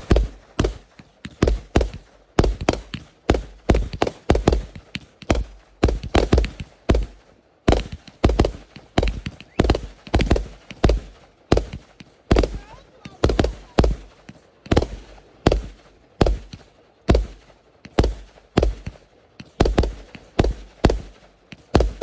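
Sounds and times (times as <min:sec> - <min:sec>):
fireworks banging: 0:00.0 - 0:22.0.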